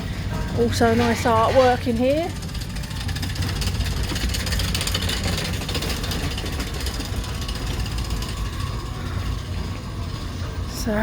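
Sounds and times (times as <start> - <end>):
ship interior low rumble: 0.0 - 11.0.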